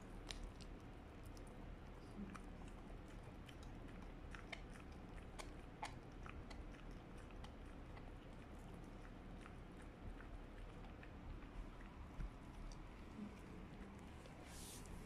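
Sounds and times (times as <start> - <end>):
dog crunching a dental chew: 0.0 - 14.4.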